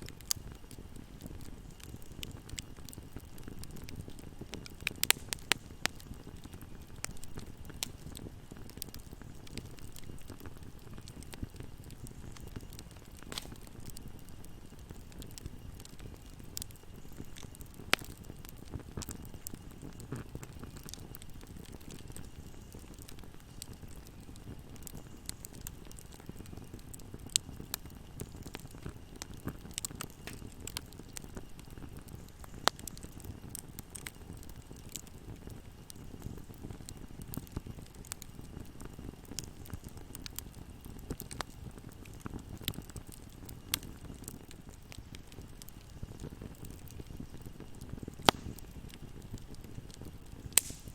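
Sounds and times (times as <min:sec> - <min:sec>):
fire crackles and pops: 0:00.0 - 0:50.9
wood fire burning: 0:00.0 - 0:50.9.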